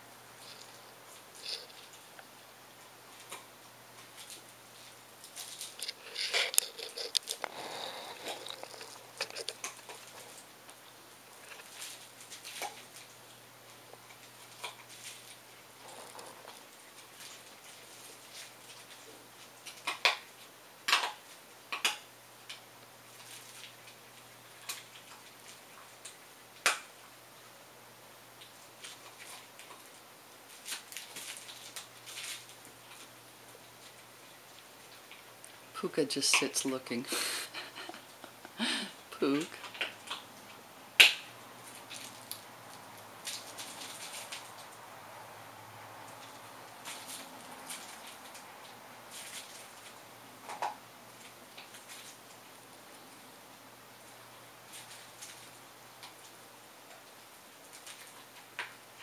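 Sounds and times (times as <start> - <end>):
dog chewing and crunching: 0.3 - 27.2, 28.4 - 38.6, 39.2 - 59.0.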